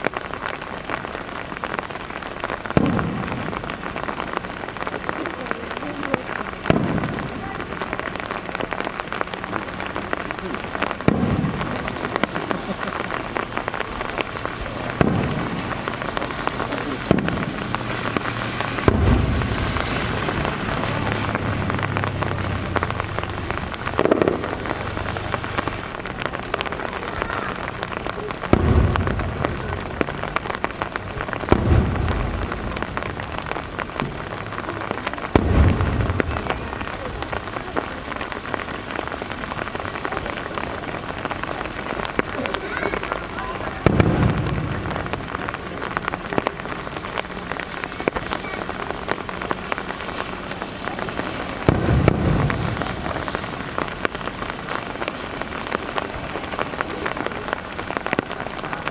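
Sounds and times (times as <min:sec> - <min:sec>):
fireworks booming: 0:00.0 - 0:58.9
rain pattering: 0:00.0 - 0:58.9.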